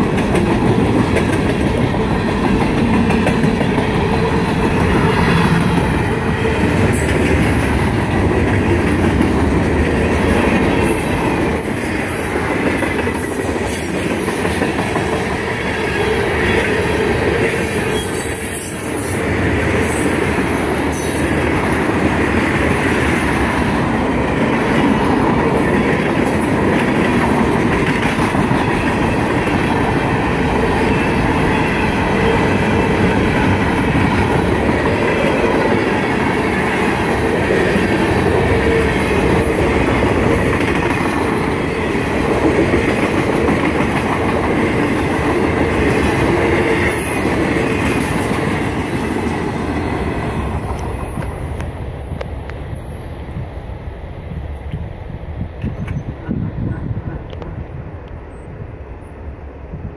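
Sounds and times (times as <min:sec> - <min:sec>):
train wheels clattering on rails: 0:00.0 - 0:53.6.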